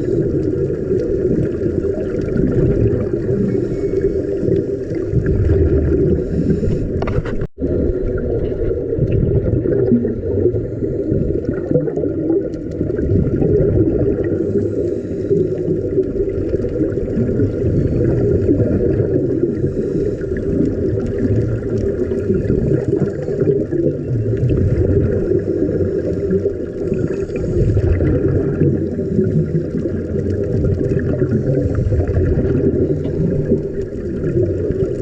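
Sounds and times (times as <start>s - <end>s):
muffled rumble of water: 0.0s - 35.0s.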